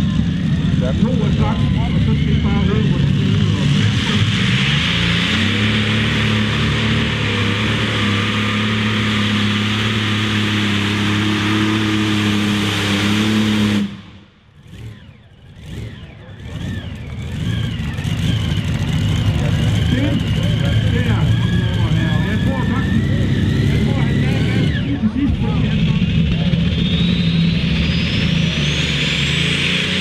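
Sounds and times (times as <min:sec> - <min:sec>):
tractor engine running hard: 0:00.0 - 0:30.0.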